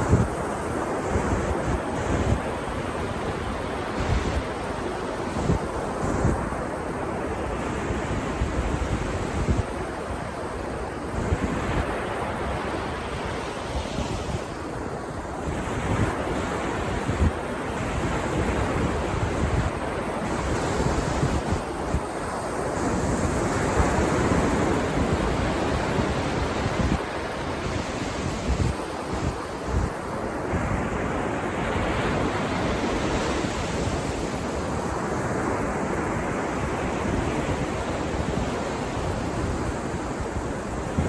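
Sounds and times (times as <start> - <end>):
wind buffeting microphone: 0.0 - 10.0, 11.0 - 41.0.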